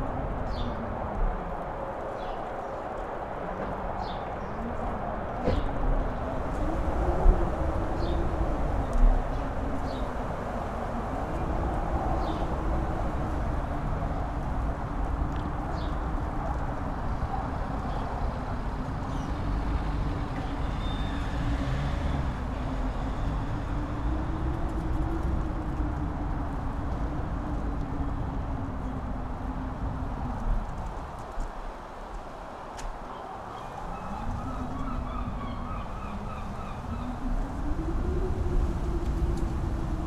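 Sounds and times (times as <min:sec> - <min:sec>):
strong wind howling: 0:00.0 - 0:40.0.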